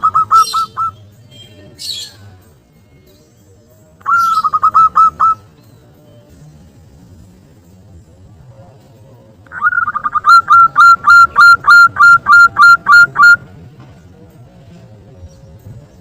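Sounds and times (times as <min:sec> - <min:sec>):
dove song notes: 0:00.0 - 0:16.0.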